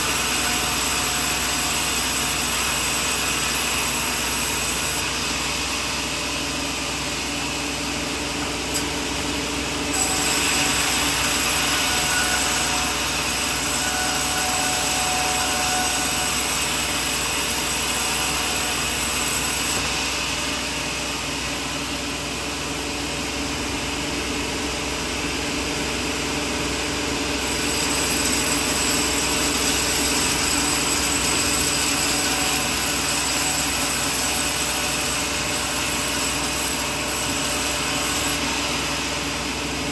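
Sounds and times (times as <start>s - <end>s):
sawmill hissing and whining: 0.0s - 39.9s.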